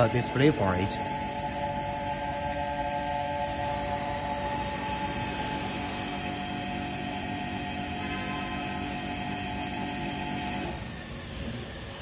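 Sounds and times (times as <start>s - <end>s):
vacuum pump humming and whining: 0.0s - 12.0s.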